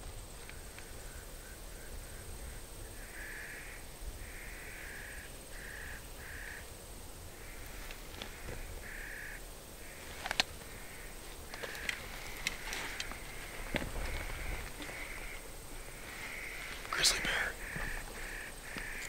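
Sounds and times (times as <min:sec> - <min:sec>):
bird cawing harshly: 0:03.0 - 0:06.6, 0:07.4 - 0:19.0.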